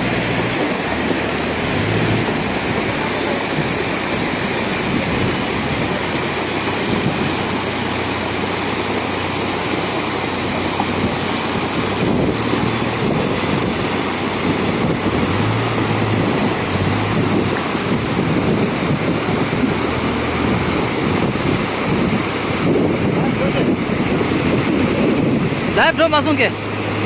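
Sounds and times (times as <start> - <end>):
rushing water: 0.0 - 27.0.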